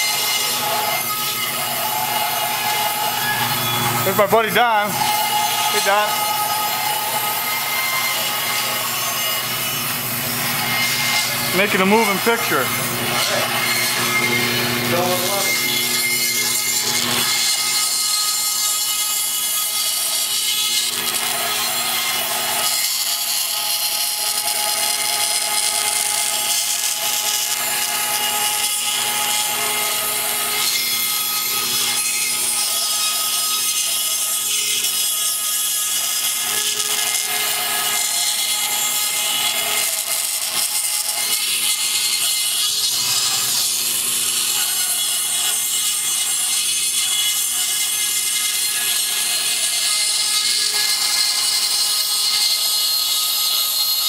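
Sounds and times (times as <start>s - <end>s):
bandsaw cutting wood: 0.0s - 54.0s.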